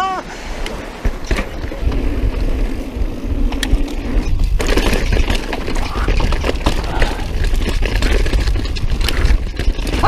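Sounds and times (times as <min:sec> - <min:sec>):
bike tyre noise: 0:00.0 - 0:10.0
wind rumble on microphone: 0:00.5 - 0:10.0
bike rattling and clattering: 0:00.8 - 0:10.0.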